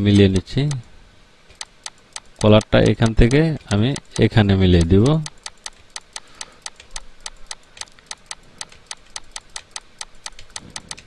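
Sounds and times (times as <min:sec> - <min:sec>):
rapid even ticking: 0:00.0 - 0:00.9, 0:01.5 - 0:11.0.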